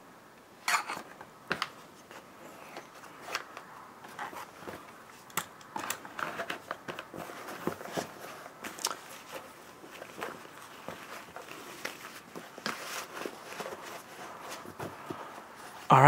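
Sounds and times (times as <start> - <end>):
leather rubbing and rustling: 1.8 - 15.9.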